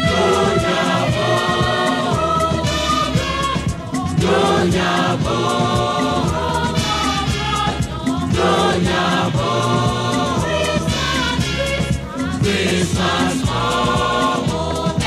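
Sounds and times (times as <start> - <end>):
choir singing gospel: 0.0 - 15.0.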